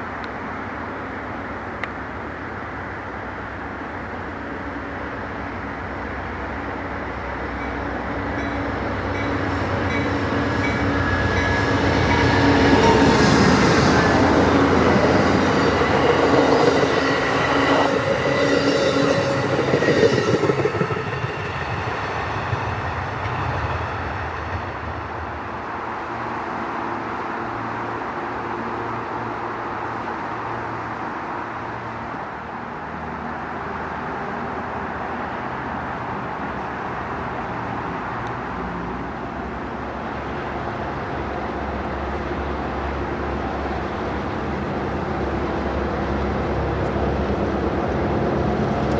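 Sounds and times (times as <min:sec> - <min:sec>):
diesel train passing: 0:00.0 - 0:48.9.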